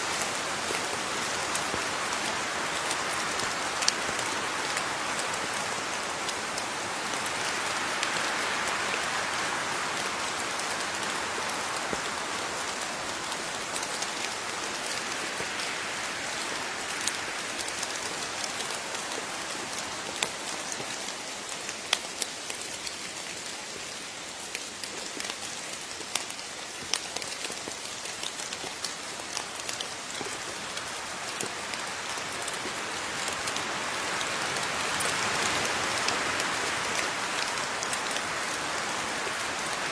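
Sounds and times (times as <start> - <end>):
raindrops clicking close by: 0.0 - 39.9
steady rain hiss: 0.0 - 39.9.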